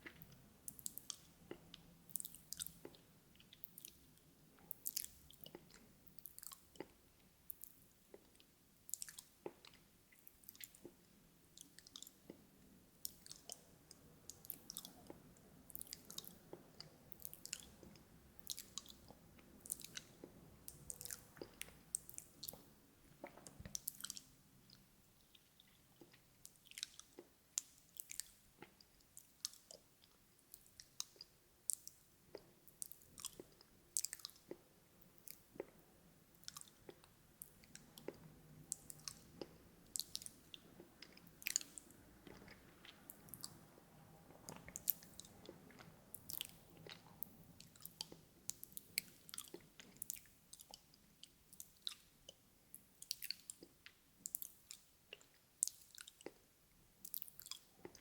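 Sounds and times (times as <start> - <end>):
chewing mouth sounds: 0.0 - 11.0, 11.6 - 58.0.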